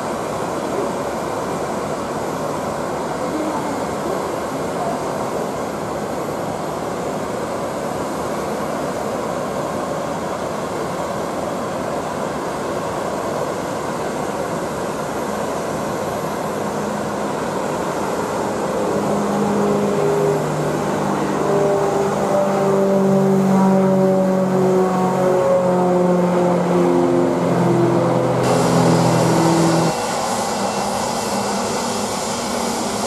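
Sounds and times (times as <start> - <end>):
propeller plane engine drone: 0.0 - 33.0.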